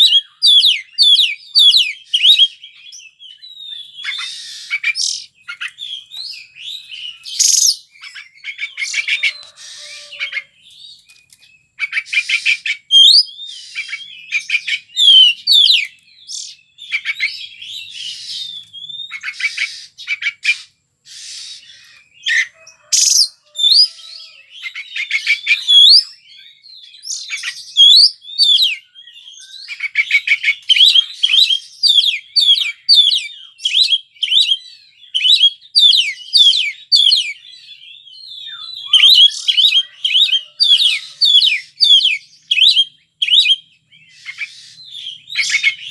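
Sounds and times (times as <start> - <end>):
bird singing whistled notes: 0.0 - 45.9.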